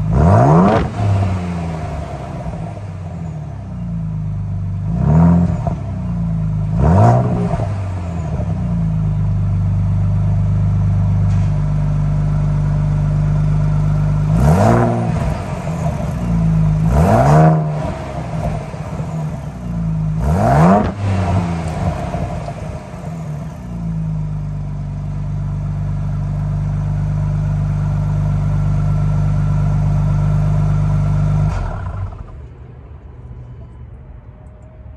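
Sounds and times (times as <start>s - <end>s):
engine exhaust idling: 0.0s - 34.9s.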